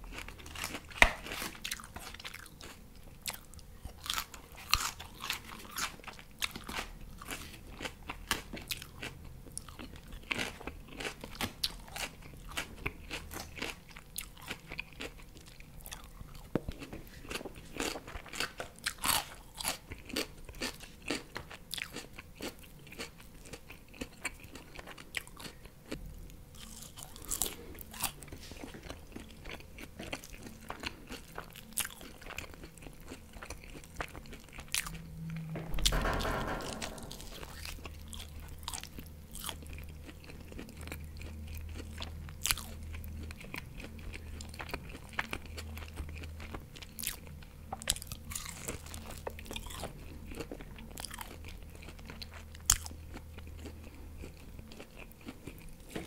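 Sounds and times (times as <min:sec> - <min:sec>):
crunchy chewing of lettuce: 0:00.0 - 0:35.3, 0:37.6 - 0:56.0.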